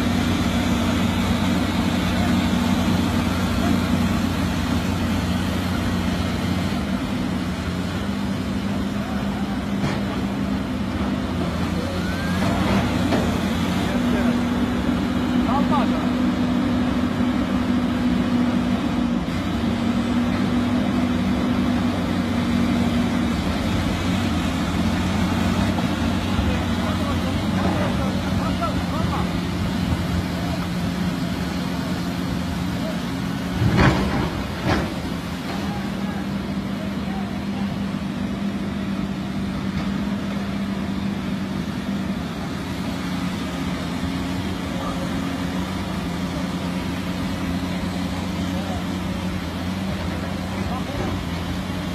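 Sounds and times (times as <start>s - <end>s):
diesel engines droning: 0.0s - 51.9s.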